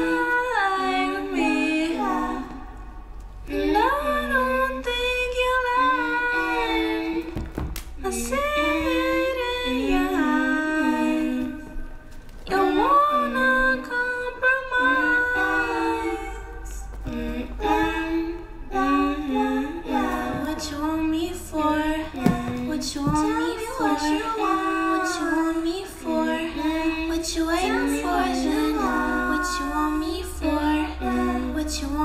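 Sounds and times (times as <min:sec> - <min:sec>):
woman singing slow melody: 0:00.0 - 0:32.0.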